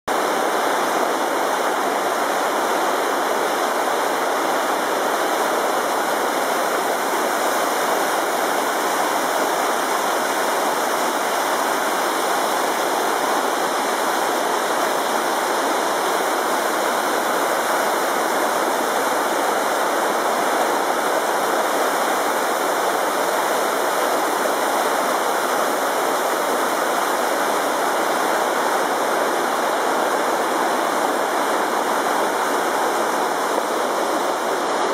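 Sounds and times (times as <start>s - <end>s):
river rushing over rapids: 0.1s - 34.9s.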